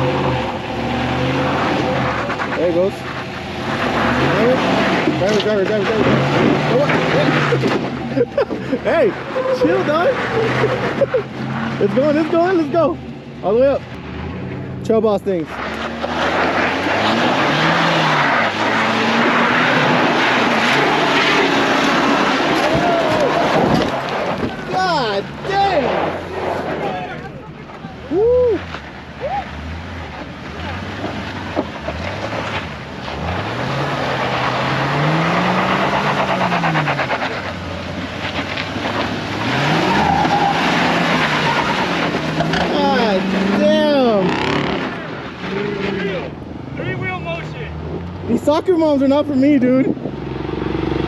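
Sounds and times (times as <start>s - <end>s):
vehicle engine under load: 0.0s - 51.0s.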